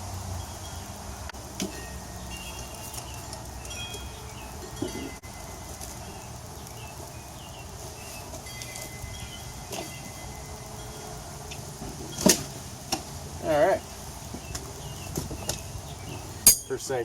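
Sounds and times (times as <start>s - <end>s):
small birds chirping: 1.8s - 11.7s, 12.9s - 17.0s.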